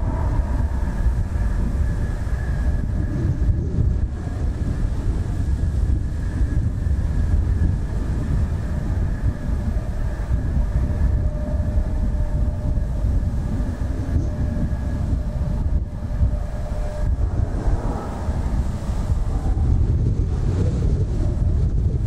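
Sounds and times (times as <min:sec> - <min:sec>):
jet engine rumble and whine: 0:00.0 - 0:22.0.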